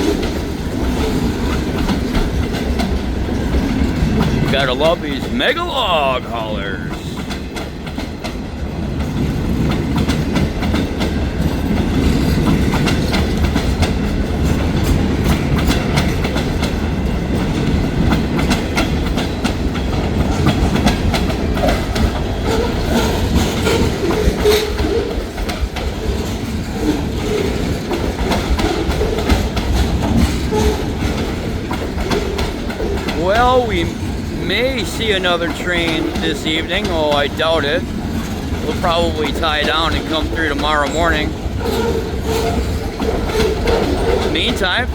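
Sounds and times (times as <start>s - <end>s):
train wheels clacking over rail joints: 0.0s - 4.5s, 7.1s - 44.5s
train low rumble: 0.0s - 44.9s.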